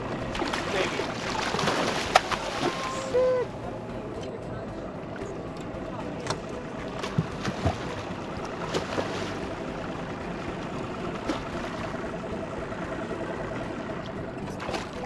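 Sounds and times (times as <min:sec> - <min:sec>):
water sloshing against boat: 0:00.0 - 0:15.0.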